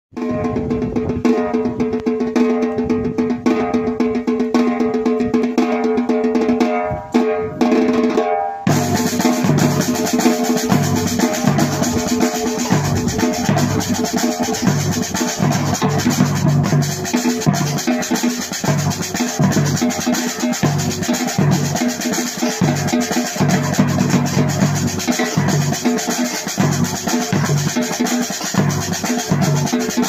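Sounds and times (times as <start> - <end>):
music with drum beat: 0.1 - 30.0.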